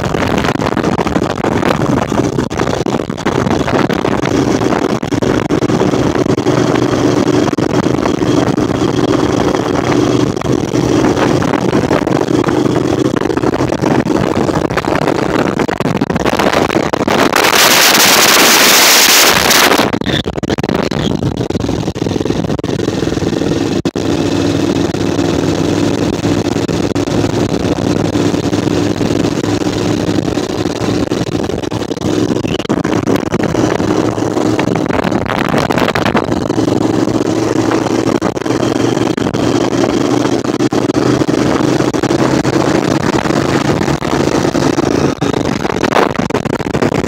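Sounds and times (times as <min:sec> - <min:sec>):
motorcycle engine cruising: 0:00.0 - 0:47.0
wind and road noise: 0:00.0 - 0:47.0.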